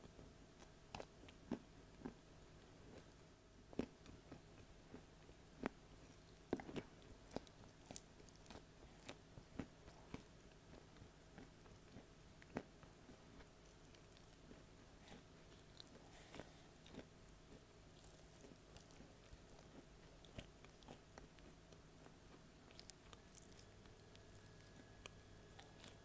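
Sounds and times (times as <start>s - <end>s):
clay being chewed: 0.6s - 26.0s.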